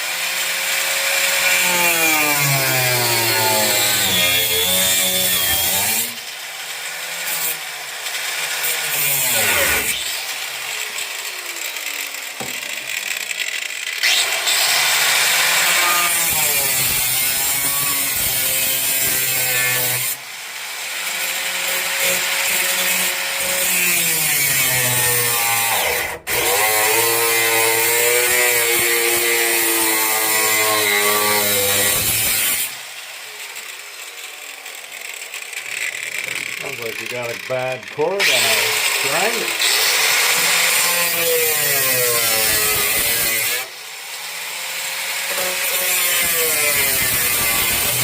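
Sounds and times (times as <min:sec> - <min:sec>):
grinder cutting sheet metal: 0:00.0 - 0:48.0.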